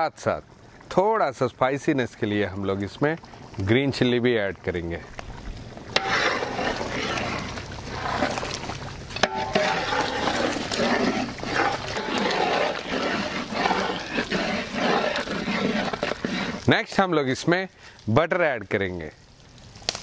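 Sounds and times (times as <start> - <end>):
gravy bubbling in a pot: 0.0 - 20.0.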